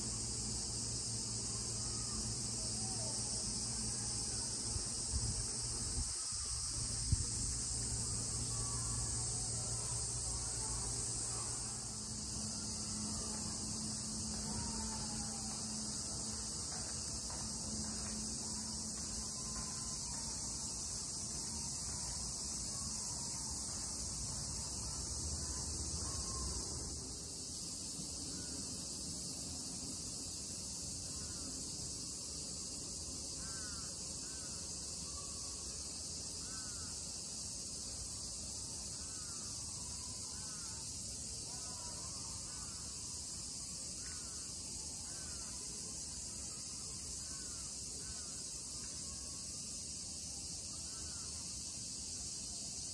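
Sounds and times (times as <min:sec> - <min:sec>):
insects droning: 0:00.0 - 0:52.9.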